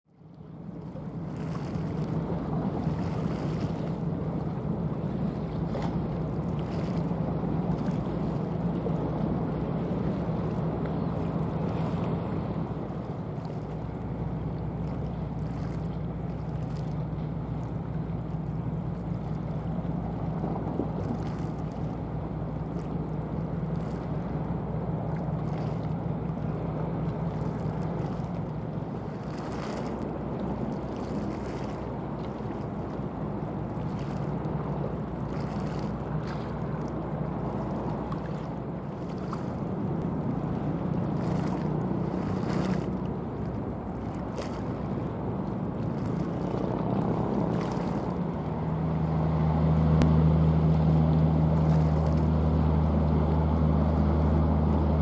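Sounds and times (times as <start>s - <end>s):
wind and water rushing: 0.0s - 55.0s
ship diesel engine drone: 0.1s - 55.0s.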